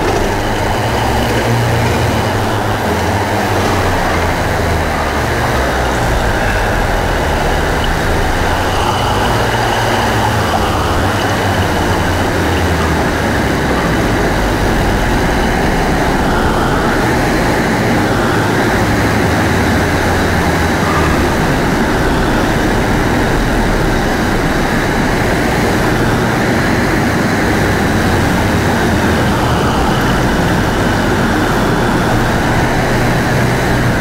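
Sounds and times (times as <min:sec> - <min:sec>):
electroacoustic noise music: 0:00.0 - 0:34.0.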